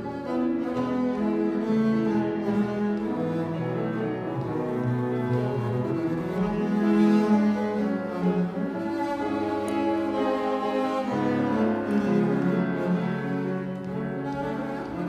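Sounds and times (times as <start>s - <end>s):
piano accompaniment: 0.0s - 15.0s.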